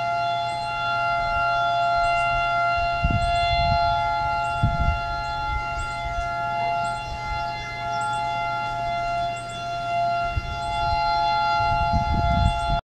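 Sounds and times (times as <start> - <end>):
siren steady tone: 0.0 - 12.8.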